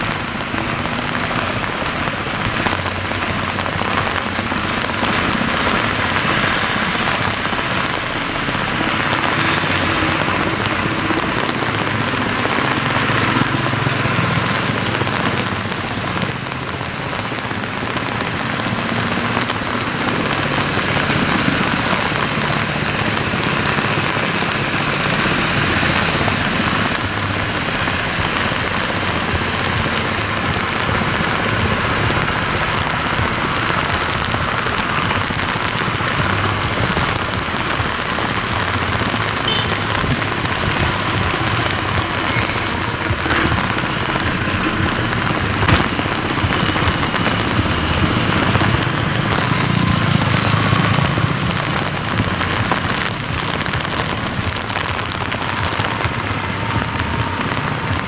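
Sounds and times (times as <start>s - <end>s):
idling traffic engines: 0.0s - 58.0s
steady rain falling: 0.0s - 58.0s.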